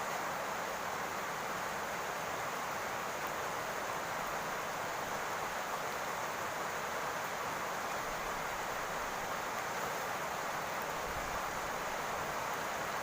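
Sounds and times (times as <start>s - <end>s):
rain on a roof: 0.0s - 13.0s.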